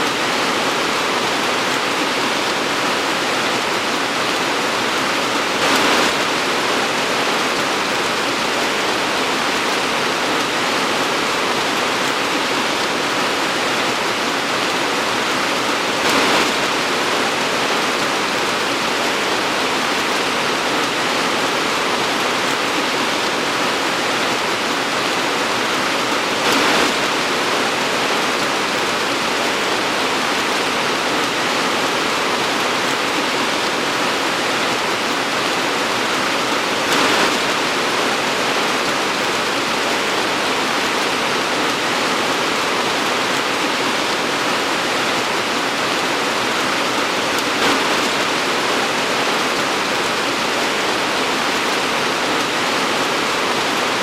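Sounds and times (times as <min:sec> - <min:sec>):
torrential rain hissing: 0:00.0 - 0:54.0.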